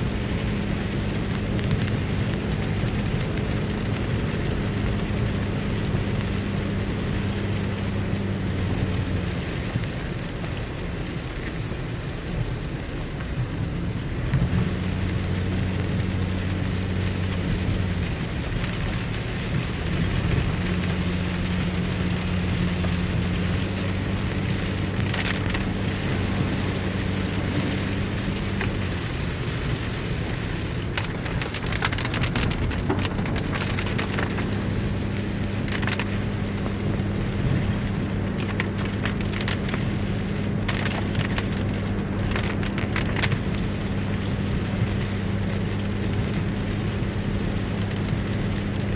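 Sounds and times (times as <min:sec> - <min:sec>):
car engine drone: 0:00.0 - 0:48.9
rain hiss: 0:00.0 - 0:48.9
tyres on wet road: 0:00.0 - 0:48.9.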